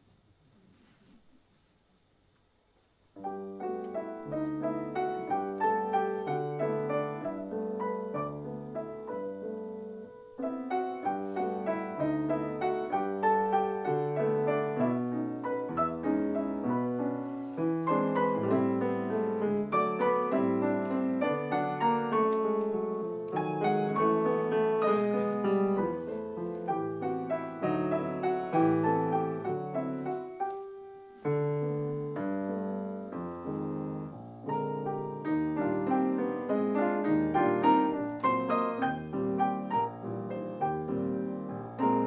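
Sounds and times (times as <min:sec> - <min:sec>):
piano duet: 0:03.1 - 0:42.0.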